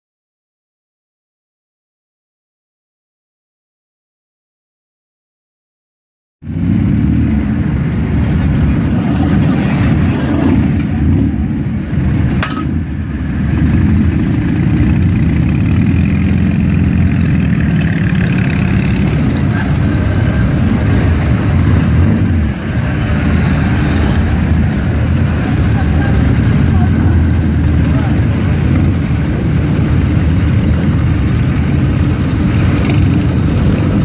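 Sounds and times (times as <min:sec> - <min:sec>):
motorcycle engines rumbling: 0:06.4 - 0:34.0.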